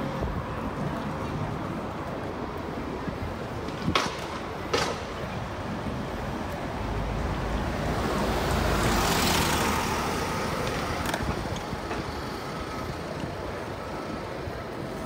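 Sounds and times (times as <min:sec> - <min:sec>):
background traffic: 0:00.0 - 0:15.0.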